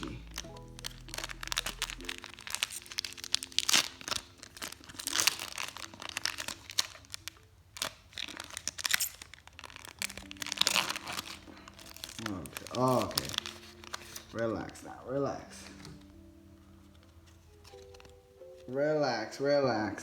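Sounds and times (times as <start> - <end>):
foil wrapper crinkling and tearing: 0.0 - 16.2, 16.8 - 18.7
faint background music: 0.0 - 20.0.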